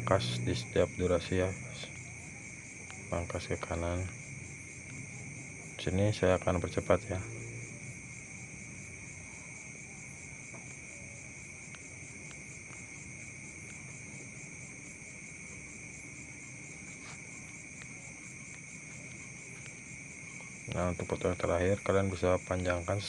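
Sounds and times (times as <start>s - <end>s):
high-pitched insect chirring: 0.0s - 23.0s.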